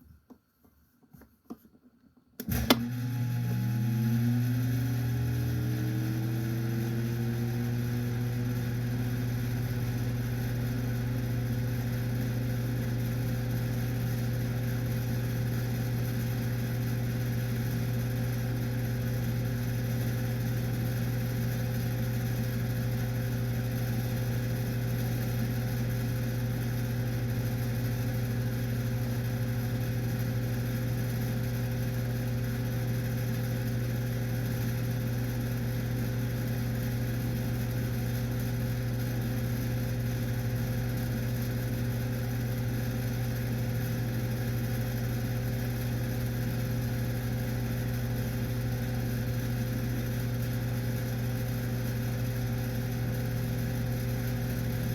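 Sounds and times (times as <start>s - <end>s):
desktop fan motor humming: 2.4s - 54.9s.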